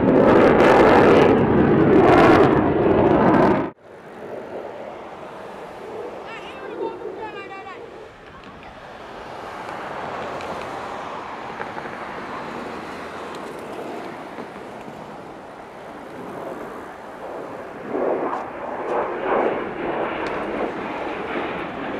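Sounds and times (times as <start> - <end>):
jet engines rushing: 0.0 - 21.9.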